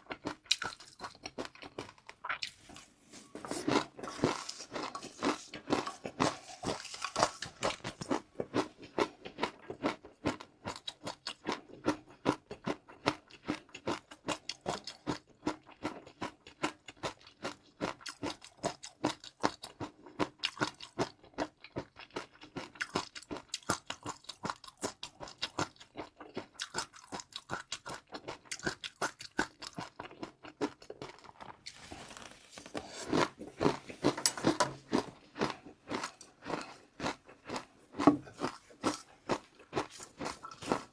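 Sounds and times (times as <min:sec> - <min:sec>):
chewing crunchy food: 0:00.0 - 0:40.9.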